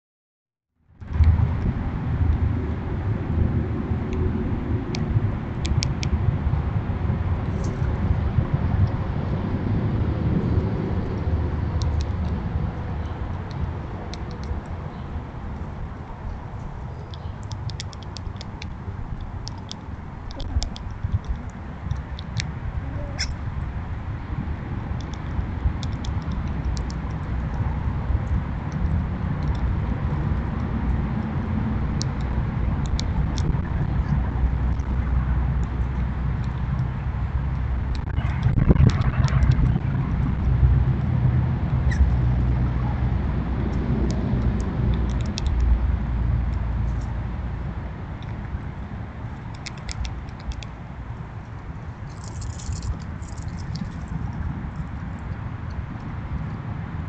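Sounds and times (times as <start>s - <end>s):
steady low rumble: 0.8s - 57.0s.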